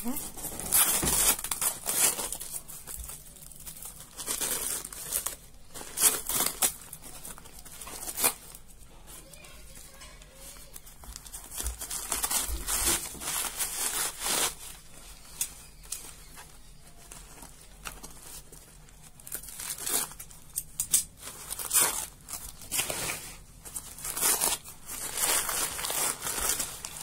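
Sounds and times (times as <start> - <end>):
paper and plastic tearing and crumpling: 0.0 - 27.0.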